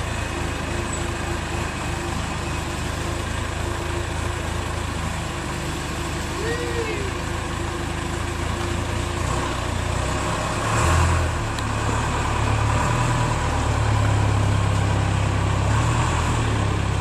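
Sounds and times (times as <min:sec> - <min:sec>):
backhoe engine running: 0:00.0 - 0:17.0.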